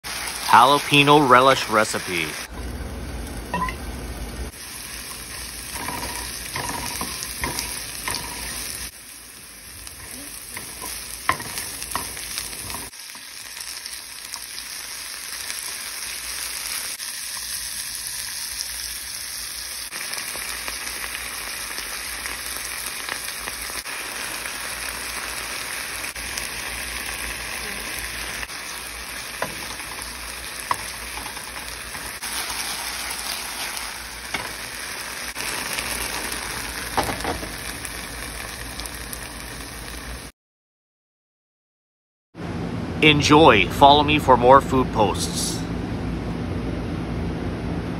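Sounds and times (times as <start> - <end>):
onions sizzling in frying pan: 0.0 - 40.3.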